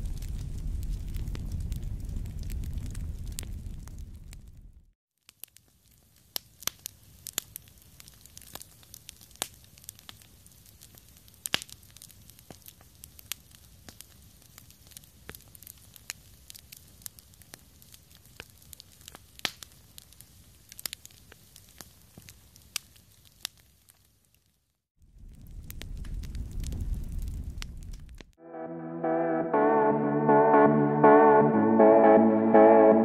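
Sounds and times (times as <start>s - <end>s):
campfire crackling and popping: 0.0s - 28.4s.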